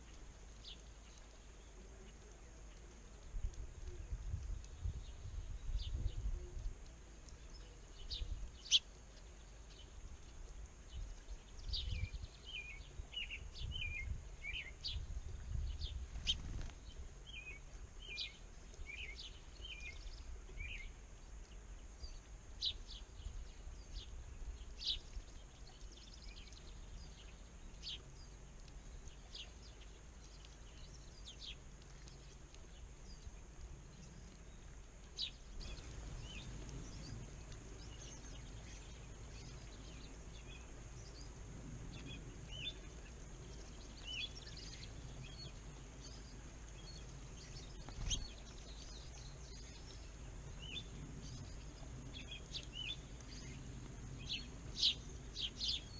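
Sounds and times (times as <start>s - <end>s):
small songbirds chirping: 0.0s - 55.9s
low wind rumble: 3.1s - 31.8s, 32.4s - 55.9s.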